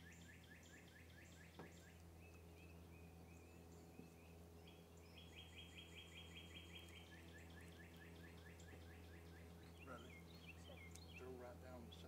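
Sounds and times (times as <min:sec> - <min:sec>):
faint bird song: 0:00.0 - 0:12.0
steady low hum: 0:00.0 - 0:12.0.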